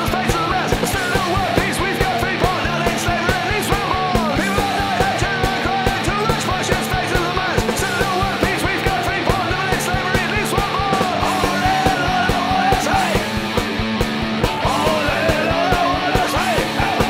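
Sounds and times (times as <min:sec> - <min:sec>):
bass guitar: 0:00.0 - 0:17.0
distorted electric guitar: 0:00.0 - 0:17.0
rapid drumming: 0:00.0 - 0:17.0.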